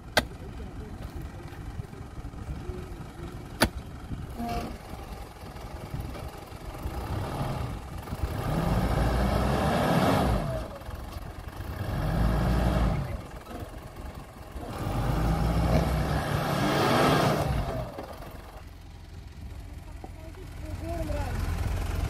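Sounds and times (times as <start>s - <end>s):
car engine revving: 2.0s - 22.0s.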